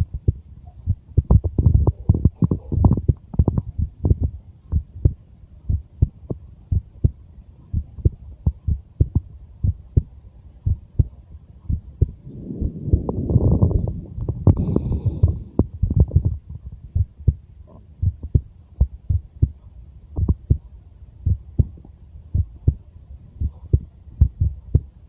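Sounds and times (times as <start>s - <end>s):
heartbeat thumps: 0.0s - 25.0s
low rumbling noise: 0.0s - 25.0s.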